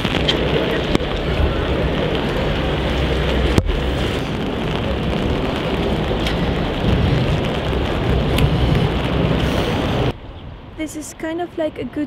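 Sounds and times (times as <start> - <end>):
rain on umbrella: 0.0 - 10.1
heavy rain on street: 0.0 - 10.2
wind rumbling on microphone: 0.0 - 12.0.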